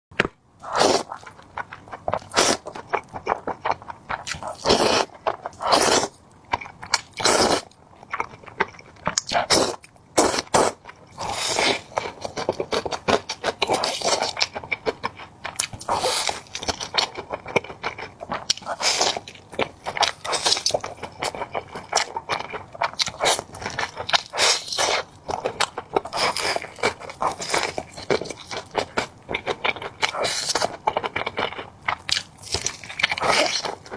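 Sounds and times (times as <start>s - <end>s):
crunchy eating and chewing: 0.2s - 33.9s.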